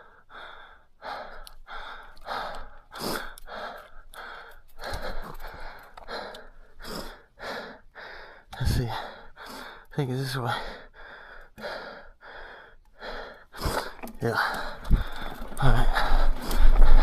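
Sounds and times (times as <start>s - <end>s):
heavy rapid breathing: 0.0s - 9.9s, 10.5s - 17.0s.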